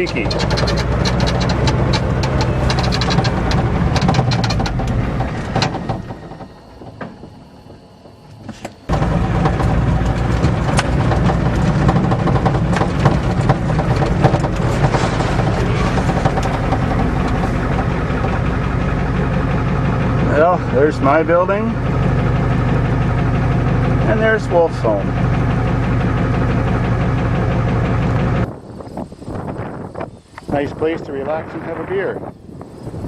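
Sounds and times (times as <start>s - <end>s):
cab rattling: 0.0s - 29.2s
diesel truck engine running: 0.0s - 30.5s.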